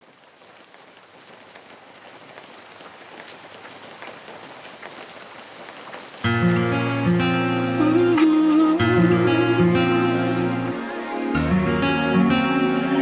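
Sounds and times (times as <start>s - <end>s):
raindrops ticking: 0.0s - 10.6s
rain hiss: 0.0s - 13.0s.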